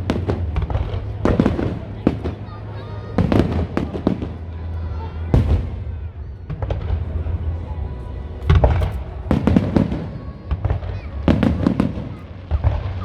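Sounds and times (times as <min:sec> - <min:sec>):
fireworks bangs and crackling: 0:00.0 - 0:13.0
low rumble: 0:00.0 - 0:13.0.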